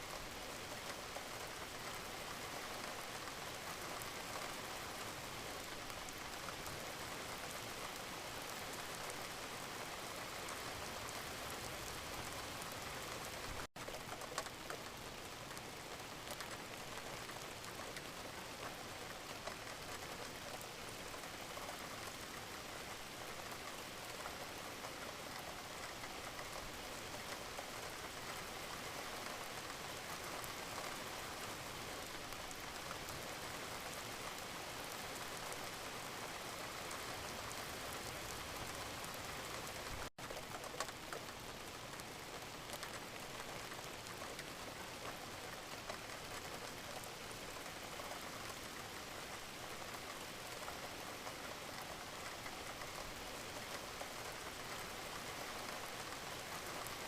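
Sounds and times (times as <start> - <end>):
gentle rain: 0.0 - 57.0.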